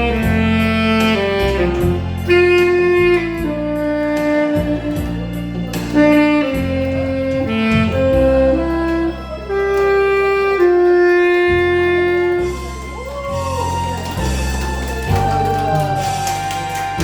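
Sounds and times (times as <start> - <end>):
backing track with bass line: 0.0 - 17.0
saxophone melody: 0.0 - 17.0.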